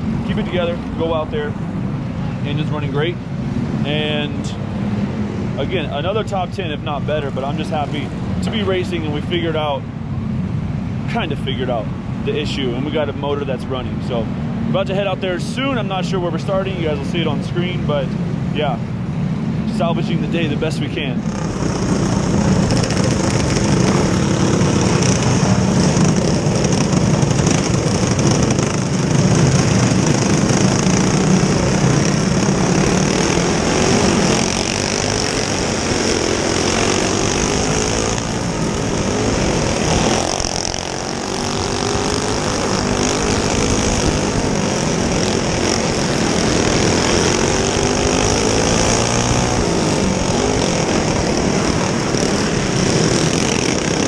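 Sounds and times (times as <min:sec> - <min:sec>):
go-kart engines revving: 0:00.0 - 0:54.0.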